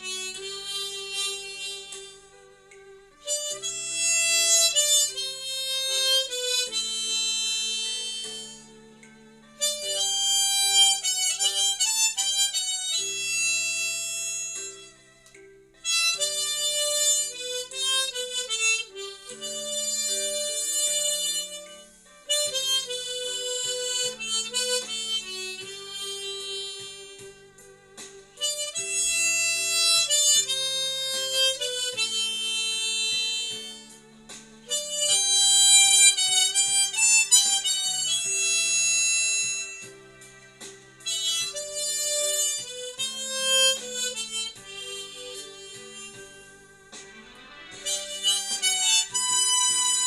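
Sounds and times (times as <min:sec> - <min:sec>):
harmonica playing slow melody: 0:00.0 - 0:50.0.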